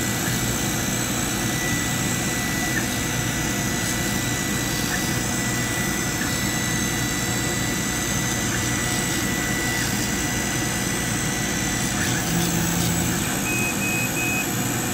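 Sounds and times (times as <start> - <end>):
machine beeping: 0.1 - 14.9
thin high whine: 1.5 - 14.5.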